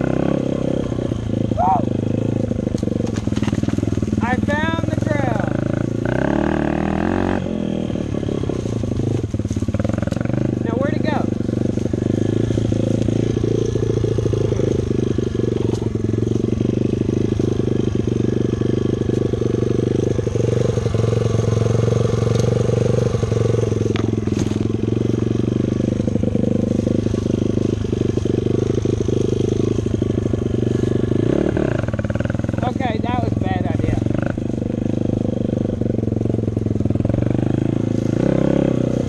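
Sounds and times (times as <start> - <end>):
dirt bike engine running: 0.0 - 39.0.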